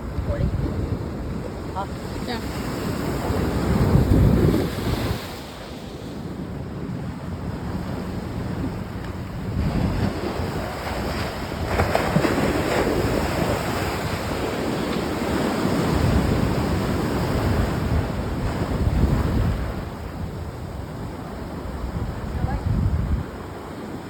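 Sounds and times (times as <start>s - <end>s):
ocean surf washing: 0.0s - 24.0s
wind buffeting microphone: 0.0s - 24.0s.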